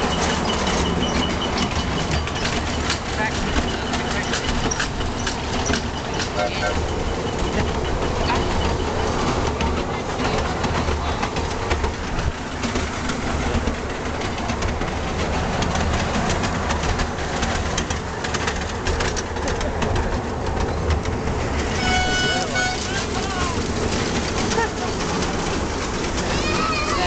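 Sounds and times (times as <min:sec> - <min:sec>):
miniature train rumbling: 0:00.0 - 0:27.0
wheels clicking on rails: 0:00.0 - 0:27.0.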